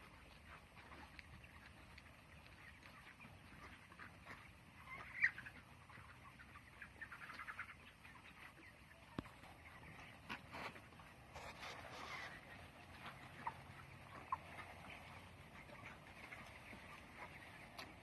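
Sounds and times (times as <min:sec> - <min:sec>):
chickens peeping and chirping: 0:00.0 - 0:18.0.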